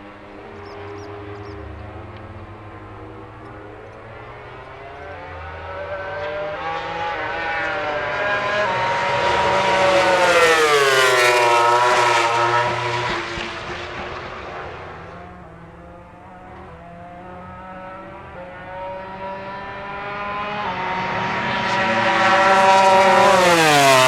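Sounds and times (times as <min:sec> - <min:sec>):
racing motorcycle passing by: 0:00.0 - 0:24.0.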